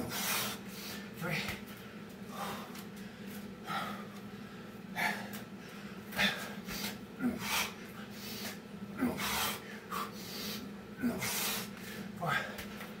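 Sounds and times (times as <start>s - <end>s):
man breathing heavily: 0.0s - 13.0s.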